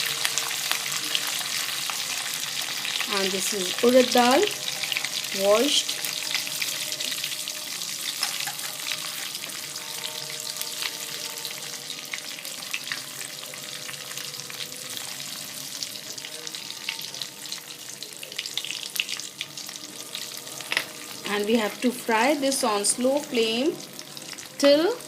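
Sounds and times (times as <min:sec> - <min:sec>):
seeds sizzling and crackling in oil: 0:00.0 - 0:25.0.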